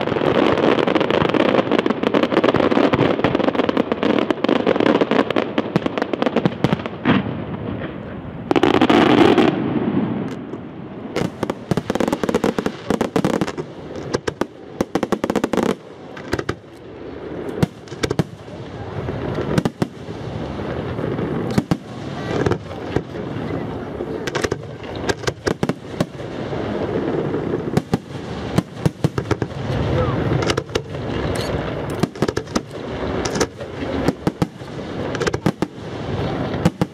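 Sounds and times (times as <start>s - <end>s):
fireworks bangs and crackles: 0.0s - 36.9s
loud firework blast: 0.0s - 36.9s.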